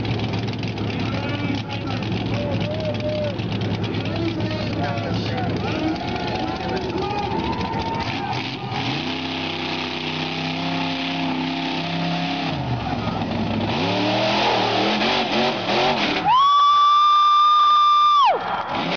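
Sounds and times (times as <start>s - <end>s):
buggy engine revving: 0.0s - 18.9s.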